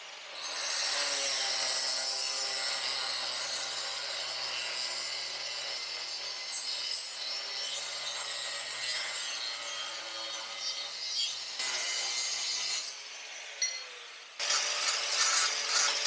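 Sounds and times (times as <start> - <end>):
angle grinder cutting steel: 0.0 - 16.0.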